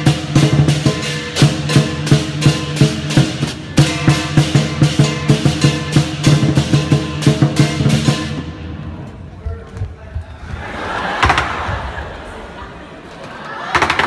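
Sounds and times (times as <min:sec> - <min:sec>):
drum beating: 0:00.0 - 0:12.2.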